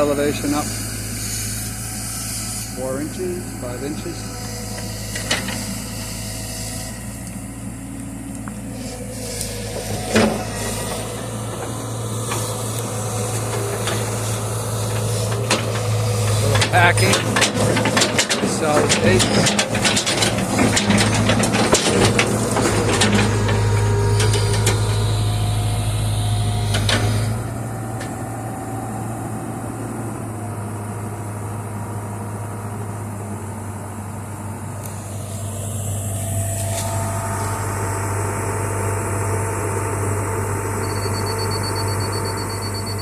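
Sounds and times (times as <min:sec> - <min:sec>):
engine idling: 0:00.0 - 0:43.0
engine knocks and clanks: 0:00.0 - 0:43.0.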